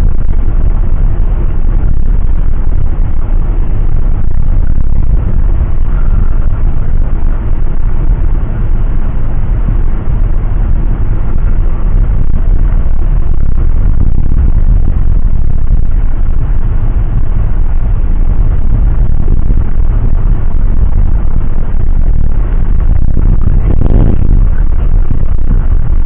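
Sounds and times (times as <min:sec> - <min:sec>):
airliner engines rumbling in cabin: 0:00.0 - 0:26.0.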